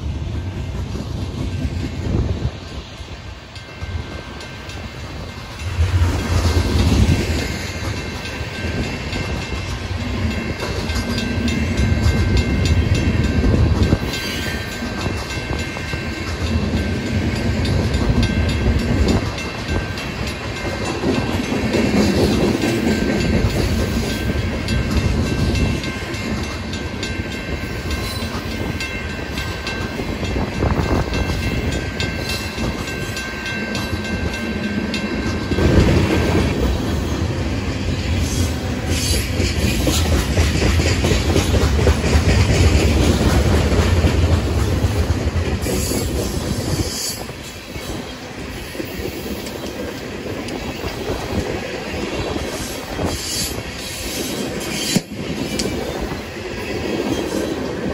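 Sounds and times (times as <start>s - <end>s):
steel wheels rumbling on rails: 0.0s - 57.9s
train wheels clickety-clack: 0.0s - 57.9s.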